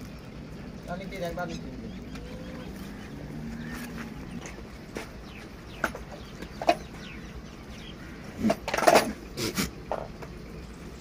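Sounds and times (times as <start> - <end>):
farmyard animal calls: 0.1 - 10.8.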